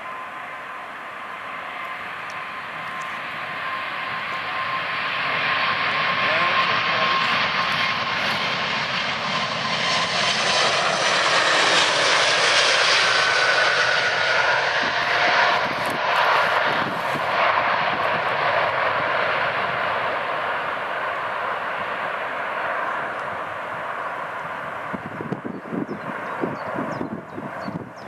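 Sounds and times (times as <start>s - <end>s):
faint engine whine: 0.0s - 28.0s
jet engines roaring: 0.0s - 28.0s.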